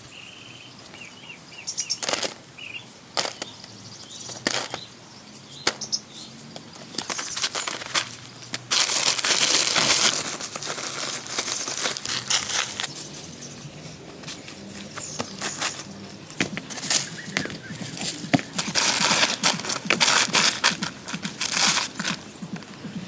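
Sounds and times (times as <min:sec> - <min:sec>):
rustling and crackling: 0:02.0 - 0:02.5, 0:03.1 - 0:04.9, 0:05.6 - 0:23.0.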